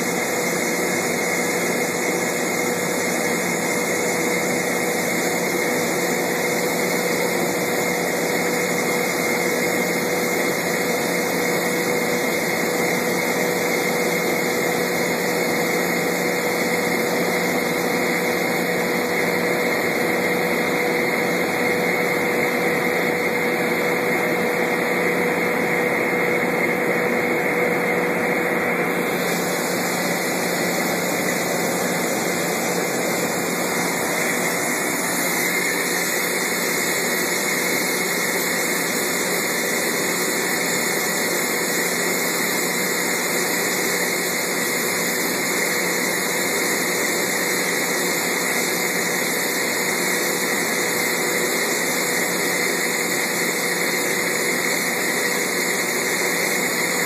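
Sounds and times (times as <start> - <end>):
air compressor drone: 0.0 - 57.0
thin machine whine: 0.0 - 57.0.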